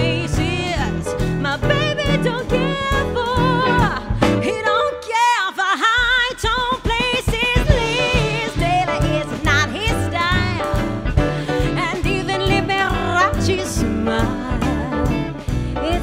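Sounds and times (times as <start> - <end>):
band with pulsing bass: 0.0 - 4.6, 7.7 - 16.0
person singing with vibrato: 0.0 - 16.0.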